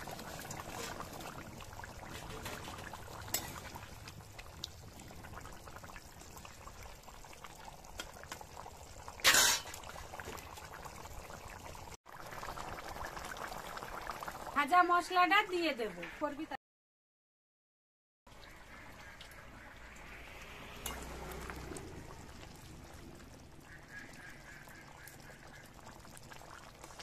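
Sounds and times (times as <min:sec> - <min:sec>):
curry bubbling in a pot: 0:00.0 - 0:15.8, 0:18.3 - 0:27.0.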